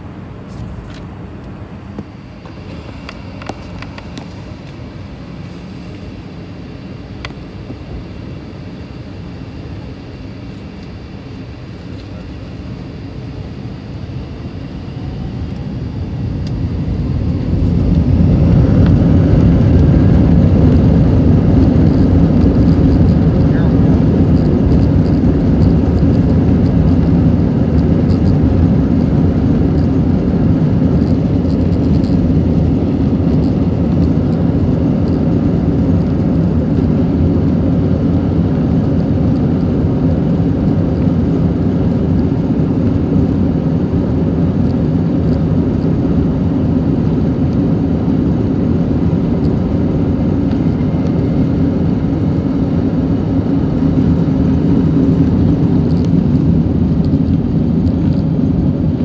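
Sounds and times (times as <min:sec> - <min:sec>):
jet engines roaring: 0:00.0 - 0:59.0
wheels rumbling on runway: 0:09.6 - 0:59.0.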